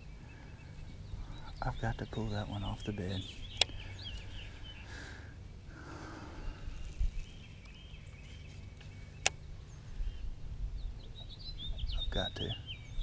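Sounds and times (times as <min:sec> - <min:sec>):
faint bird chirps: 0:00.0 - 0:05.4, 0:06.0 - 0:13.0
low outdoor rumble: 0:00.0 - 0:13.0.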